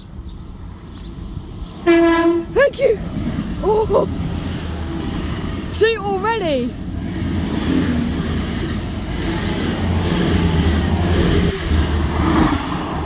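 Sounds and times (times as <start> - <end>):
low diesel engine hum: 0.0 - 13.0
train wheels on rails: 0.0 - 13.0.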